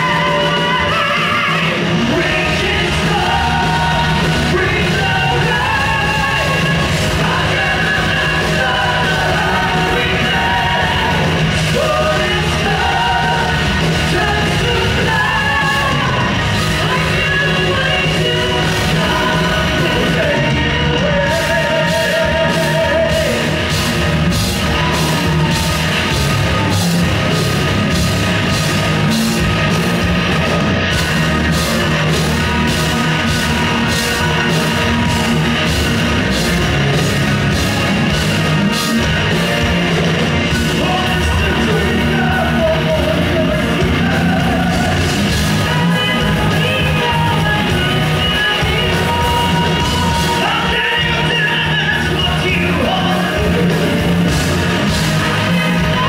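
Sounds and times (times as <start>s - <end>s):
drums beating: 0.0s - 56.0s
guitars: 0.0s - 56.0s
metal band playing live: 0.0s - 56.0s
sung vocals: 0.0s - 56.0s.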